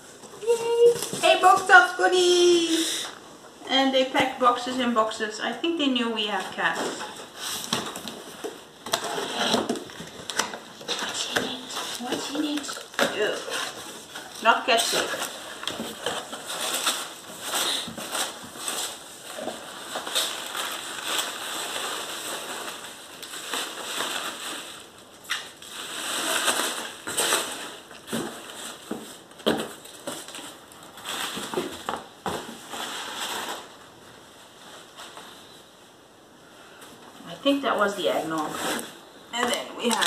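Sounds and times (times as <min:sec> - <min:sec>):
packing peanuts and plastic rustling: 0:04.0 - 0:35.6, 0:37.4 - 0:40.0.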